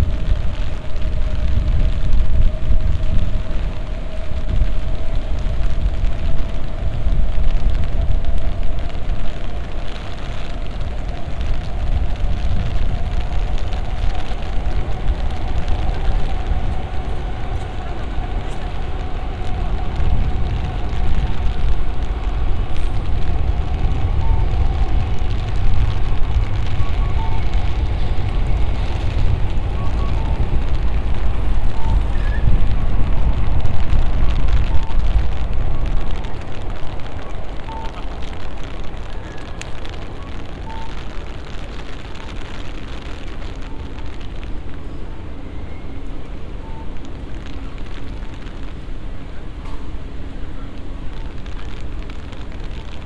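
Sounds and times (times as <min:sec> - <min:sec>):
low rumble: 0:00.0 - 0:53.0
rain pattering on street: 0:00.0 - 0:53.0.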